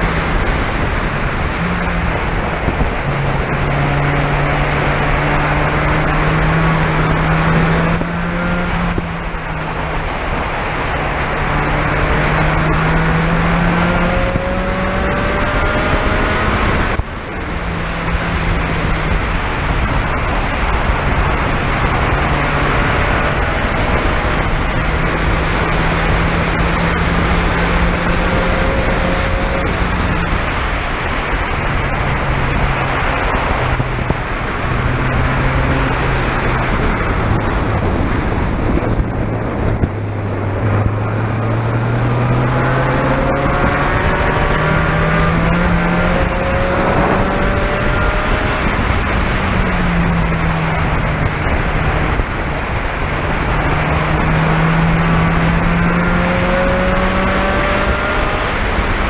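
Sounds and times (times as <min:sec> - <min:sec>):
race car engine revving: 0:00.0 - 0:59.0
wind rushing: 0:00.0 - 0:59.0.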